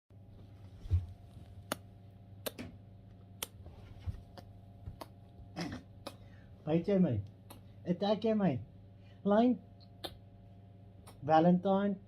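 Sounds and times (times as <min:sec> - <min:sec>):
low electrical hum: 0:00.1 - 0:12.0.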